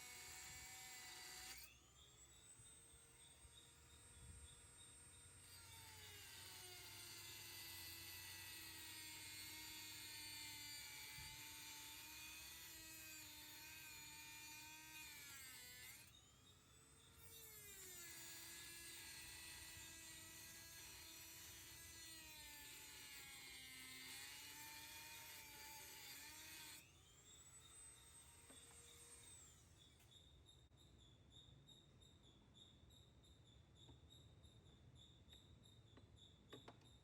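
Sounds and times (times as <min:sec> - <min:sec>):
rotary tool cutting metal: 0:00.0 - 0:30.0.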